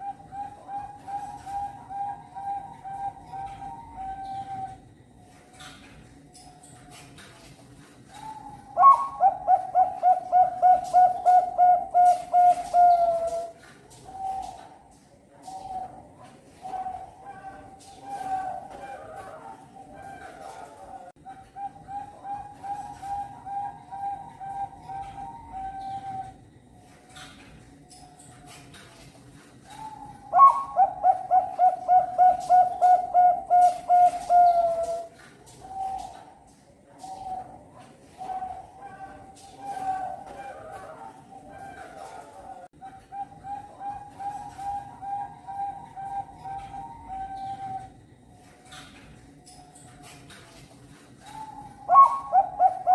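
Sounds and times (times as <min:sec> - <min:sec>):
dove cooing: 0:00.0 - 0:05.1, 0:08.1 - 0:27.4, 0:29.6 - 0:49.2, 0:51.2 - 0:52.9.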